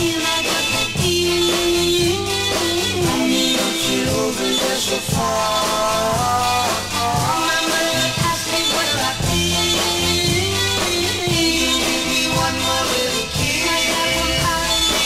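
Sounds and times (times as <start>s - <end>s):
pop record with guitar: 0.0s - 15.0s.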